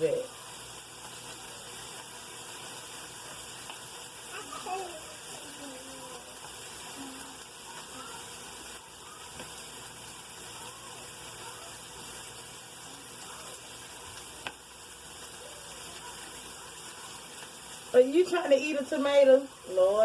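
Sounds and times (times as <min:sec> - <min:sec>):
vegetables sizzling in a skillet: 0:00.0 - 0:20.0.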